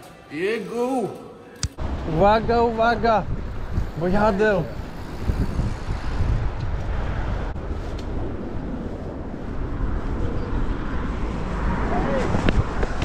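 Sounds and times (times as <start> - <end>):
wind rumble on microphone: 1.8 - 13.0.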